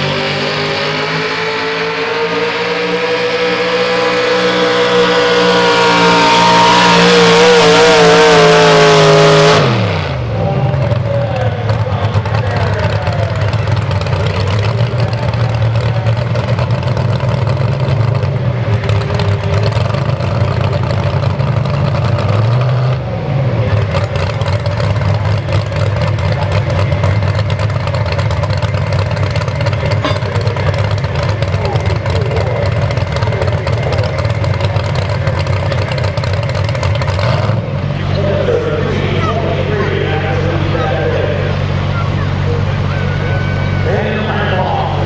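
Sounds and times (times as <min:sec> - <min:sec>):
truck engine running hard: 0:00.0 - 0:45.0.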